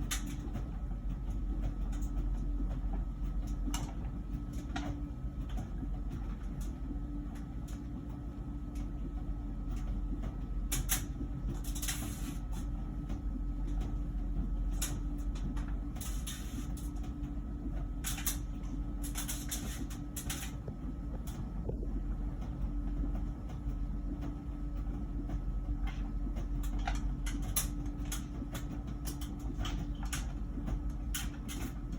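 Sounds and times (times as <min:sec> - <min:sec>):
dryer humming: 0:00.0 - 0:31.9.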